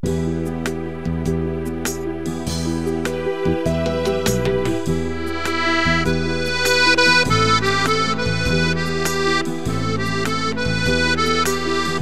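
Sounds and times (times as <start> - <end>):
accordion playing a melody: 0.0 - 12.0.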